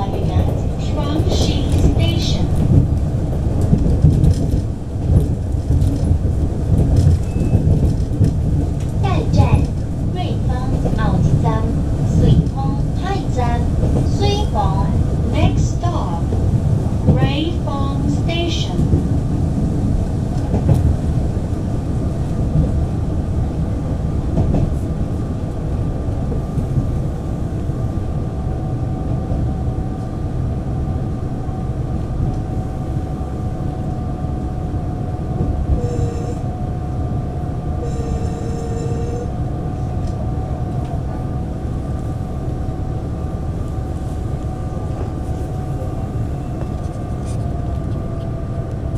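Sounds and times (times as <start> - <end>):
train rumbling at speed: 0.0 - 48.9
train whine: 0.0 - 48.9.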